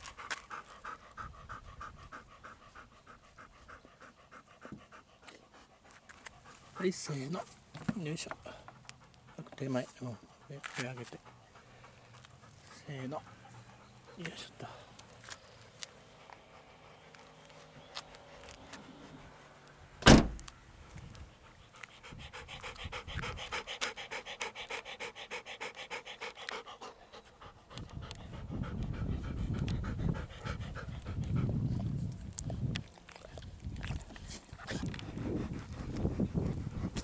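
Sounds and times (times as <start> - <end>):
dog panting: 0.0 - 37.0.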